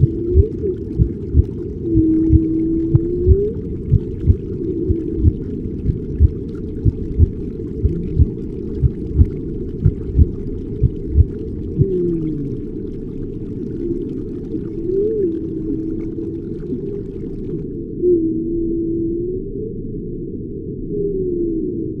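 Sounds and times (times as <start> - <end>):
low muffled rumble: 0.0 - 21.2.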